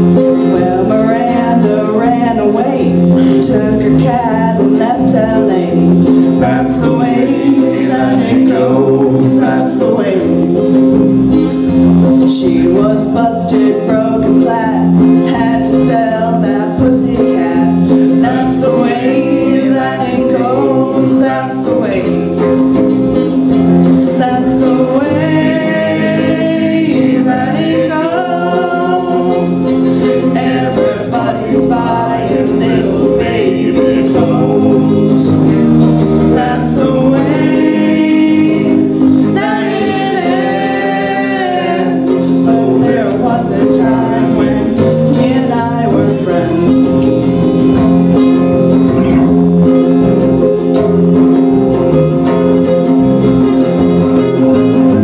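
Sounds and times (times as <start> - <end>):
acoustic guitar: 0.0 - 55.0
electric bass: 0.0 - 55.0
person singing: 0.0 - 55.0.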